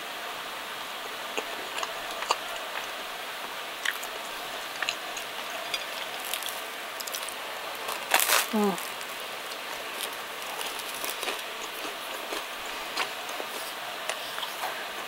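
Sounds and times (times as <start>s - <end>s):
background hiss: 0.0s - 15.0s
person chewing crunchy food: 1.1s - 15.0s.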